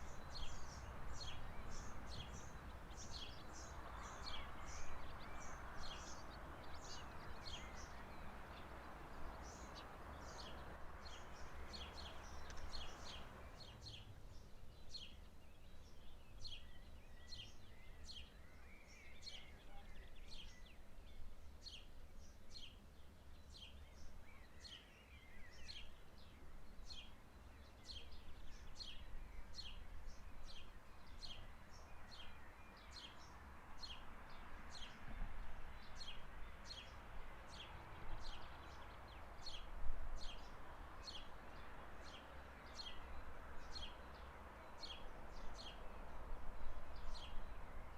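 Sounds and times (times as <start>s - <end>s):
bird chirping: 0.0s - 47.9s.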